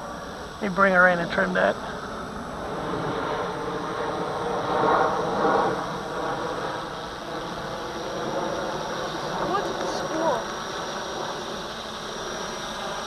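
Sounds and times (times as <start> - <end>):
rc helicopter rotor whirring: 0.0 - 13.0.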